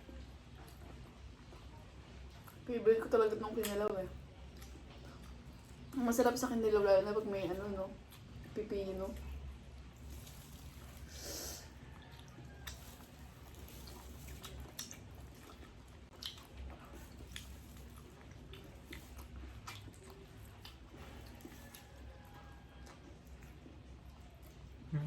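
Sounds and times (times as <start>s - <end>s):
chewing with wet smacks: 0.0s - 25.0s.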